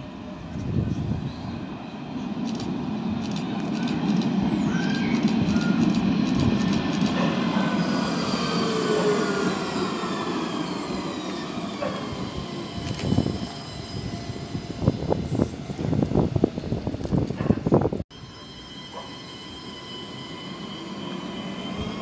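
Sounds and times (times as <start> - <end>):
tram wheels rumbling on rail: 0.0 - 22.0.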